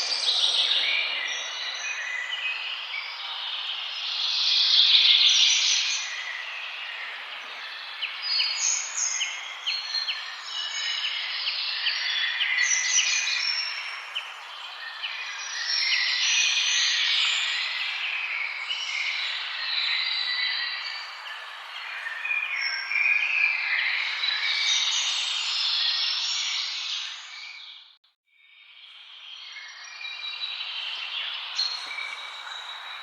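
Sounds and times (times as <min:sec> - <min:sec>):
songbirds chirping and singing: 0:00.0 - 0:27.9, 0:29.2 - 0:33.0.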